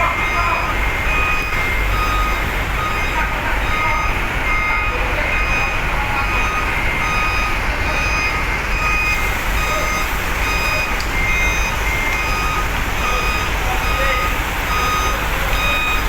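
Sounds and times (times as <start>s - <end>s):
low rumble of truck engines: 0.0s - 16.0s
truck reversing alarms beeping: 0.0s - 16.0s.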